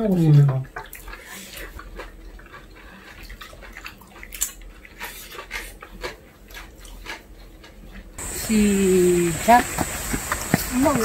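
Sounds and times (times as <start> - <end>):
wet chewing: 0.1 - 11.0.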